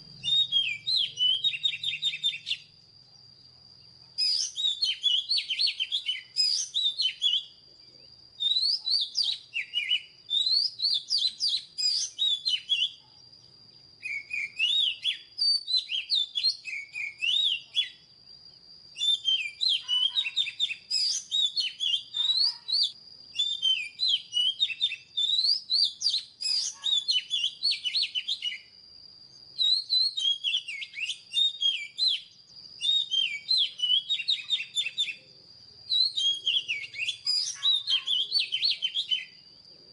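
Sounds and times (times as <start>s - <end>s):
bird whistled song: 0.0s - 39.7s.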